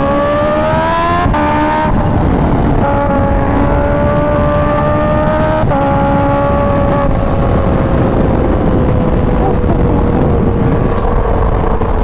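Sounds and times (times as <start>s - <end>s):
motorcycle engine at speed: 0.0s - 12.0s
wind rush: 0.0s - 12.0s.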